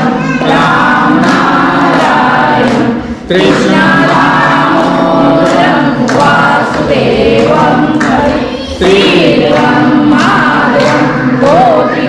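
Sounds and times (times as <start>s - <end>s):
group singing a hymn in unison: 0.0s - 12.0s.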